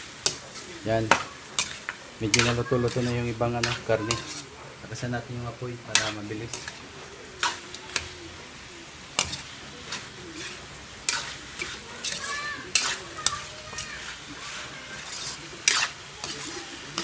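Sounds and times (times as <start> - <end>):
frying sizzle: 0.0 - 17.0.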